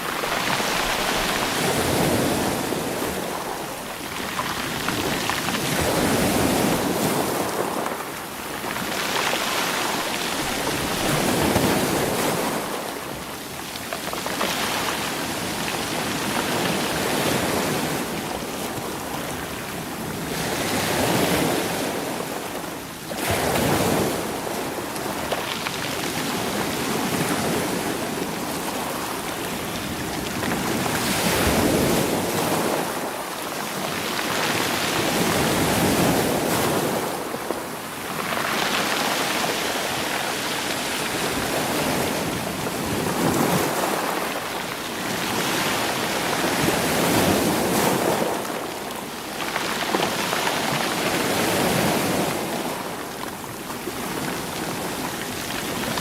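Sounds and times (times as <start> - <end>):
sea waves over rocks: 0.0 - 56.0.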